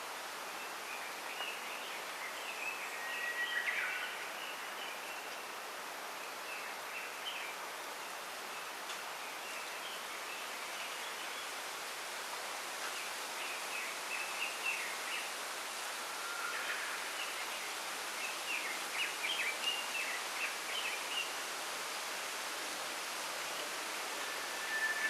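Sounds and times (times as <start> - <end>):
wind rustling bamboo leaves: 0.0 - 25.0.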